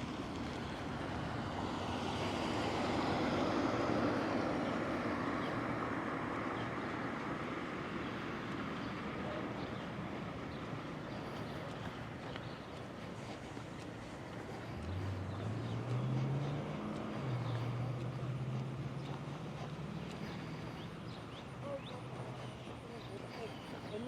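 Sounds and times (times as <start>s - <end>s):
vehicle passing: 0.0s - 24.0s.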